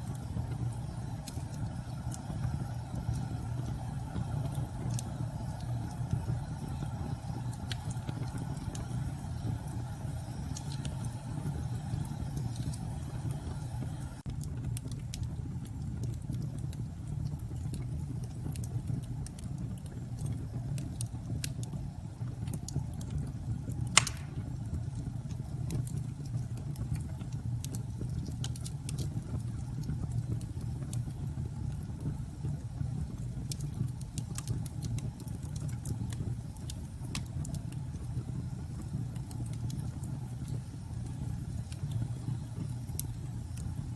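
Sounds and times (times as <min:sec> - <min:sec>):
fireplace crackling and popping: 0:00.0 - 0:43.9.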